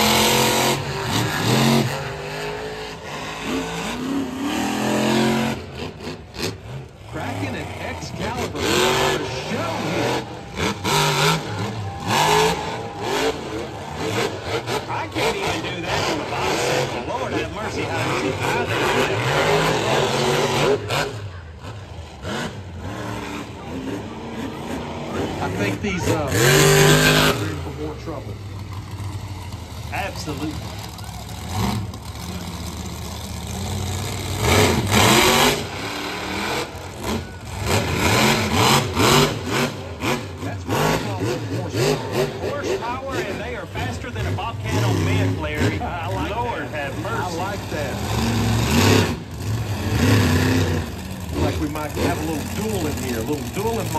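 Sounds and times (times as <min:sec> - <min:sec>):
monster truck engine revving: 0:00.0 - 0:53.9.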